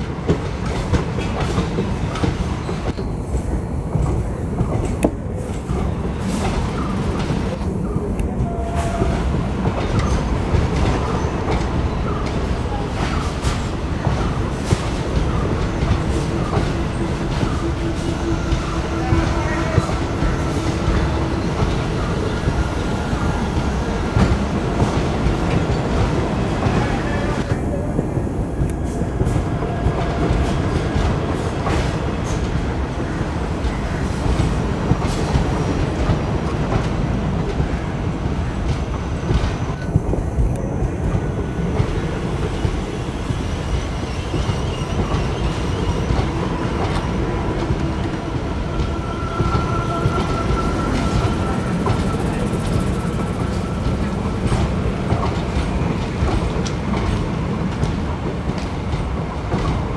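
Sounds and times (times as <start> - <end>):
train coaches rolling past: 0.0 - 59.9.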